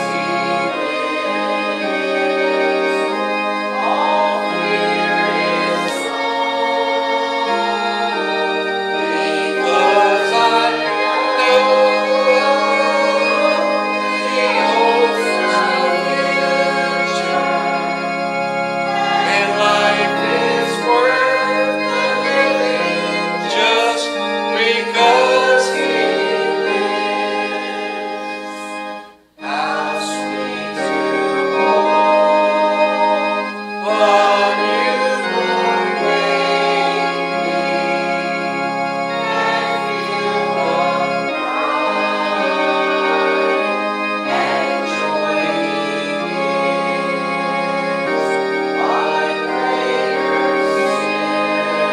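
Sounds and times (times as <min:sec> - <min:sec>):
congregation singing a hymn: 0:00.0 - 0:51.9
organ accompaniment: 0:00.0 - 0:51.9.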